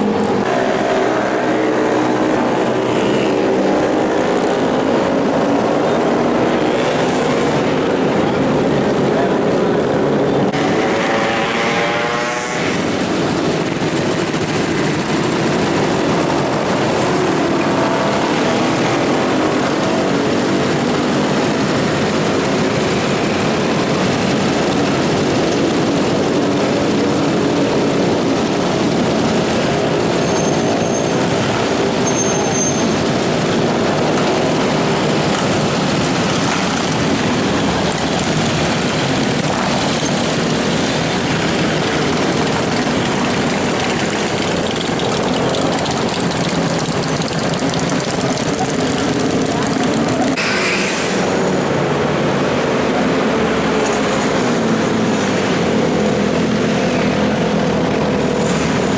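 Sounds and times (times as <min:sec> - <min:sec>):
motorcycle engines in traffic: 0:00.0 - 0:58.9
motorcycle revving up: 0:00.0 - 0:58.9.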